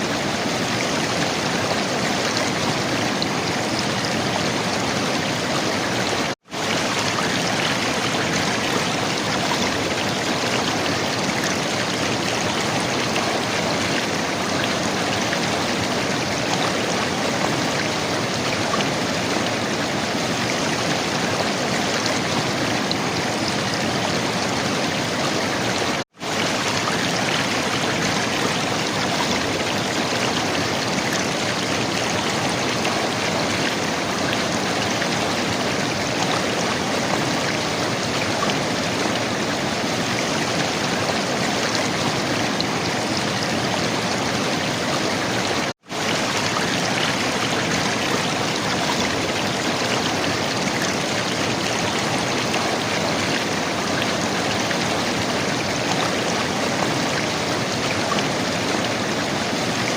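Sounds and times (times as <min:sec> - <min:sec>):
river water gurgling: 0:00.0 - 0:59.9.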